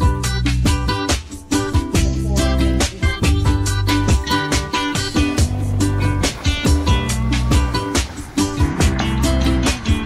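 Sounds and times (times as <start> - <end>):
background music with steady beat: 0.0 - 10.0
plucked guitar: 0.0 - 10.0.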